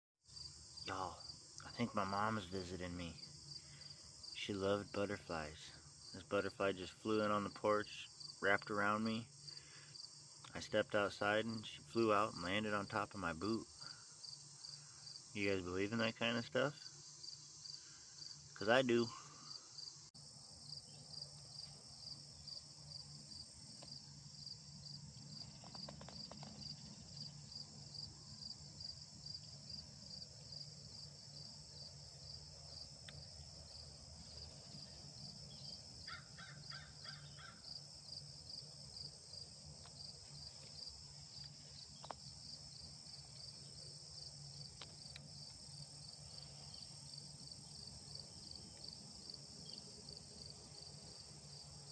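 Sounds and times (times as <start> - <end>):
crickets chirping: 0.3 - 51.9.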